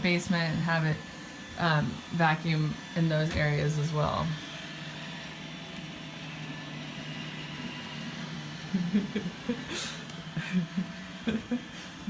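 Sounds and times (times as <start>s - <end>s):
robot vacuum motor hum: 0.0s - 12.0s.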